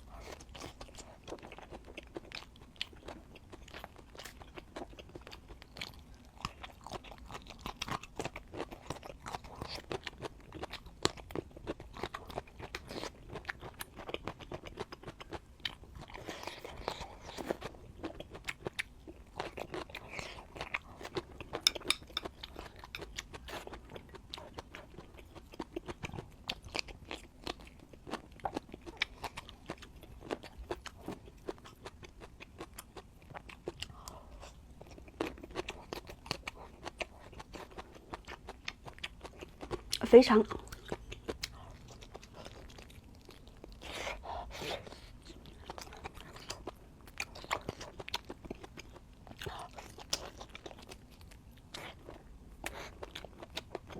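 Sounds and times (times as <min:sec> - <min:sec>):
chewing crunchy food: 0:00.0 - 0:53.9.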